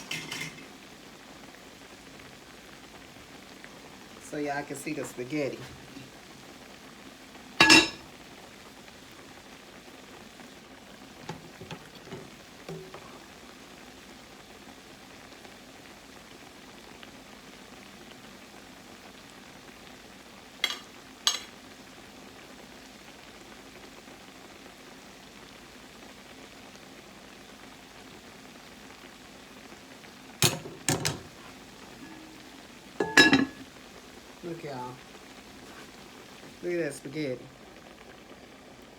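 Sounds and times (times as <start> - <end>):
croquettes sizzling in hot oil: 0.0 - 38.9.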